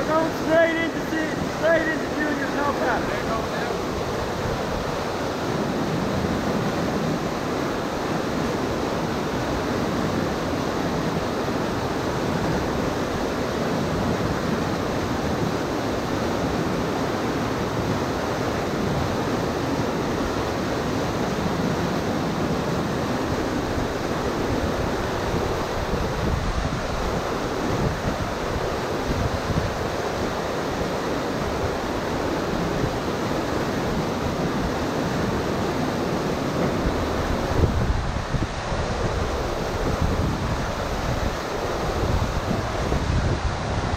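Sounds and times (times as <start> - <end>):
whitewater rapids roaring: 0.0 - 43.9.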